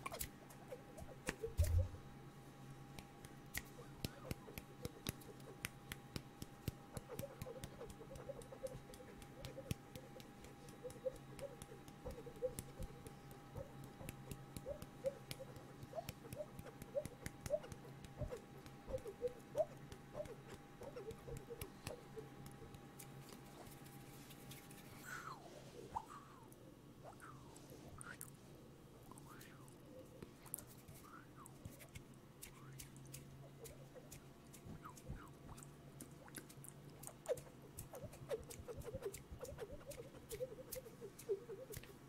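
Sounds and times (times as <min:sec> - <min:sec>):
tongue clicks: 0:02.9 - 0:23.4, 0:26.0 - 0:28.4, 0:29.1 - 0:42.0.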